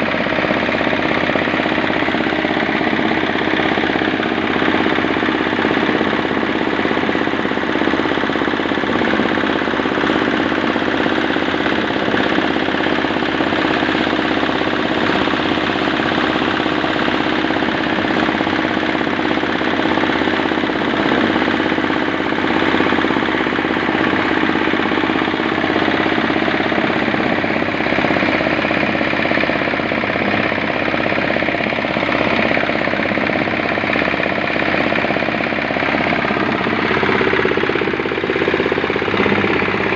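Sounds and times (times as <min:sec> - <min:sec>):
diesel engine running cement mixer: 0:00.0 - 0:39.9.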